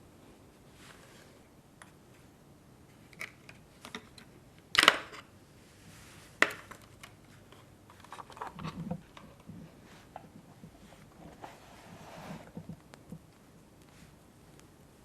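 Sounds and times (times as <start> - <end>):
soft rustling: 0.5 - 3.8, 5.6 - 15.0.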